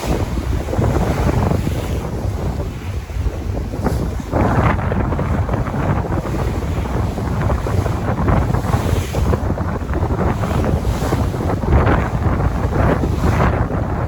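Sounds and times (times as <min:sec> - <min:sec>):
sea waves washing in: 0:00.0 - 0:14.0
wind buffeting microphone: 0:00.0 - 0:14.0.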